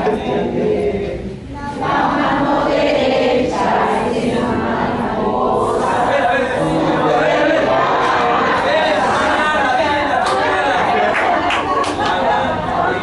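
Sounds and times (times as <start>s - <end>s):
group of adults singing: 0.0s - 13.0s.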